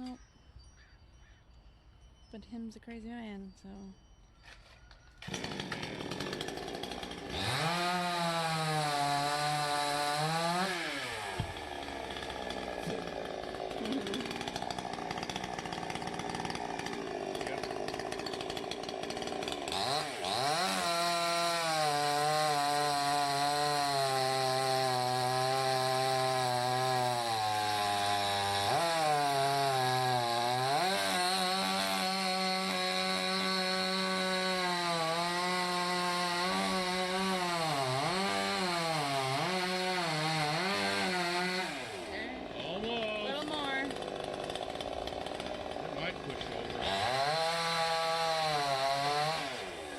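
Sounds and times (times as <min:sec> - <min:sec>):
chainsaw cutting wood: 0:04.4 - 0:49.9.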